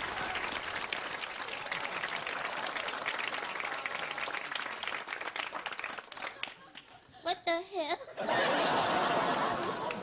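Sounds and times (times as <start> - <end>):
crowd applauding: 0.0 - 7.2, 8.4 - 10.0.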